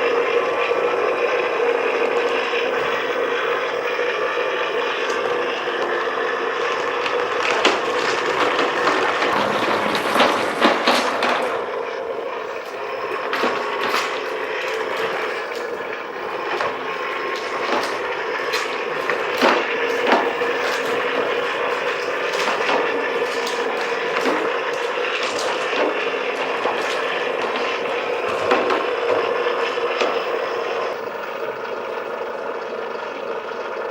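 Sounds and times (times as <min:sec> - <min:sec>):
wheels knocking on wood: 0:00.8 - 0:31.3.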